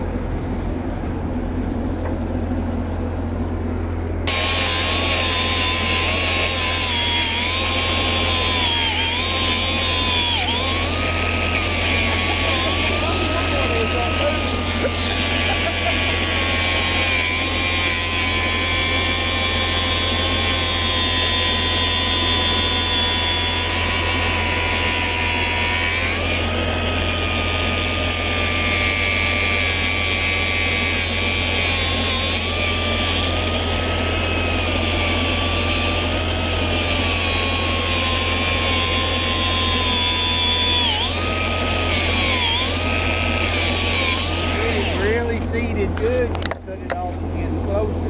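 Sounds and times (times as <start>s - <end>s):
constant low hum: 0.0s - 48.0s
machinery high whine: 0.0s - 48.0s.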